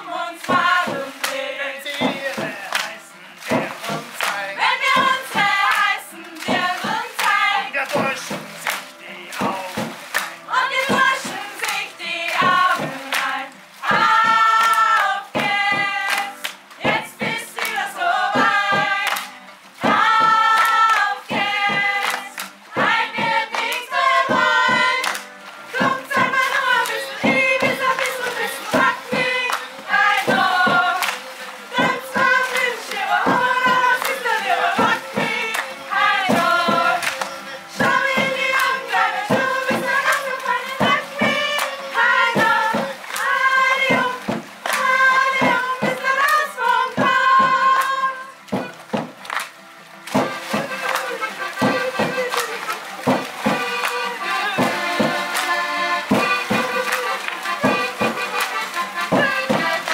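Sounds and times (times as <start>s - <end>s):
choir singing: 0.0s - 3.6s, 4.3s - 7.8s, 10.5s - 48.3s, 50.4s - 59.9s
acoustic guitar: 0.0s - 59.9s
clapping hits: 0.4s - 59.9s.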